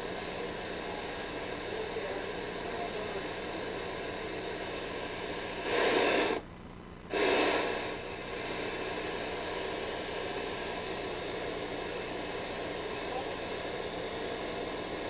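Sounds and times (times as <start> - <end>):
television static hiss: 0.0 - 15.0.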